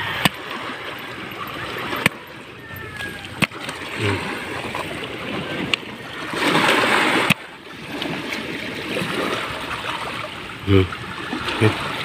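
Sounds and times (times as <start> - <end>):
water washing over stony shore: 0.0 - 12.0.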